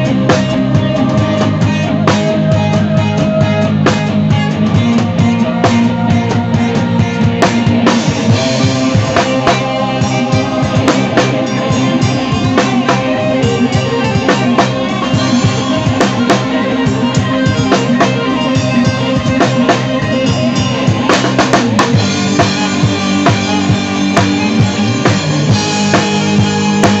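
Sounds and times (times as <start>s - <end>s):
bass and keyboard notes: 0.0s - 27.0s
live band playing: 0.0s - 27.0s.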